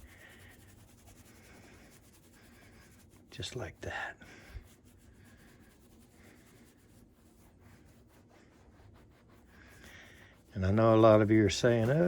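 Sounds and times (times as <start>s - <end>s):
hand rubbing carpet: 0.0s - 12.0s.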